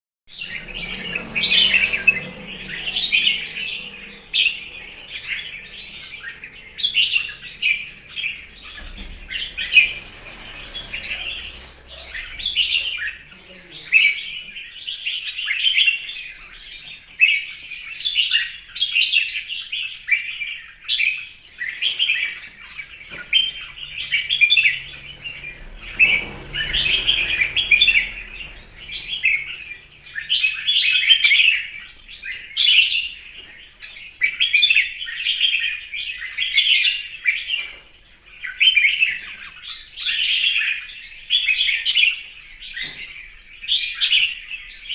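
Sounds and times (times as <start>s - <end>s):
bulbul singing: 0.3s - 44.9s.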